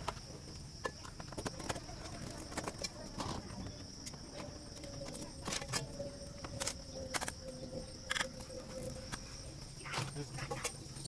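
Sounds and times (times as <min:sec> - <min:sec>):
crickets chirring: 0:00.0 - 0:11.0
faint steady hum: 0:00.0 - 0:11.0.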